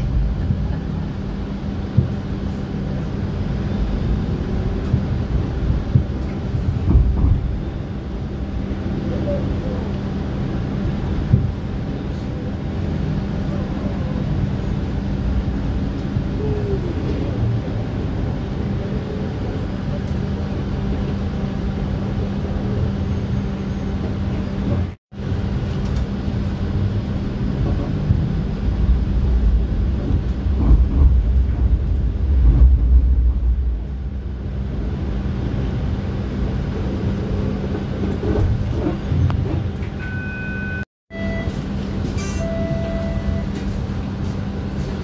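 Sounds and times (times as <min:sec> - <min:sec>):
streetcar electrical hum: 0:00.0 - 0:45.0
wheels rumbling on rails: 0:00.0 - 0:45.0.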